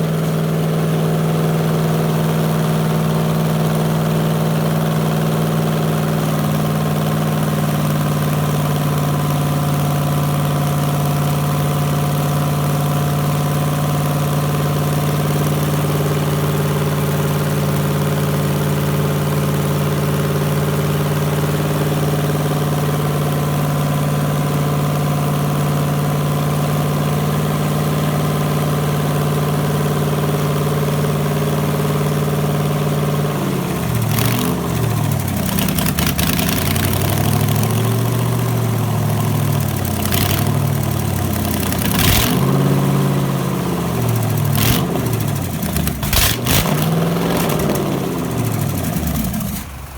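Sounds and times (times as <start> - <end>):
boat engine idling: 0.0 - 49.9.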